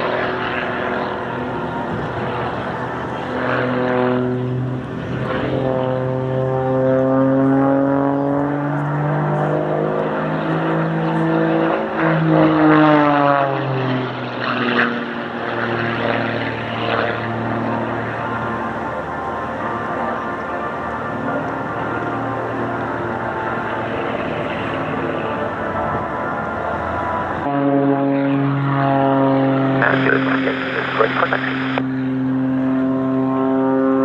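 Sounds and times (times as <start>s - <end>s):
propeller aircraft flying past: 0.0s - 34.0s.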